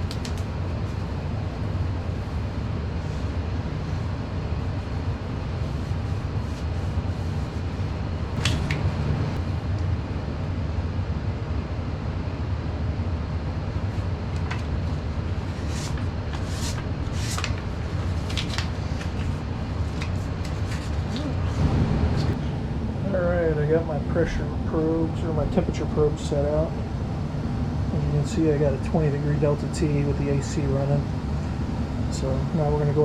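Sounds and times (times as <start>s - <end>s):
air conditioner hum: 0.0s - 33.0s.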